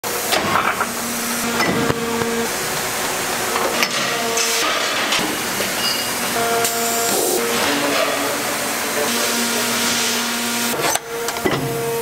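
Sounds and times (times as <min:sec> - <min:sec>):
machinery hiss with faint hum: 0:00.1 - 0:12.0.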